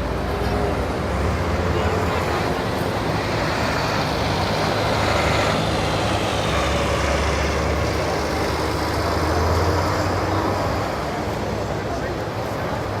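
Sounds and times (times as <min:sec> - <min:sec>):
city street traffic: 0:00.0 - 0:13.0
heavy vehicle engine running: 0:00.0 - 0:13.0.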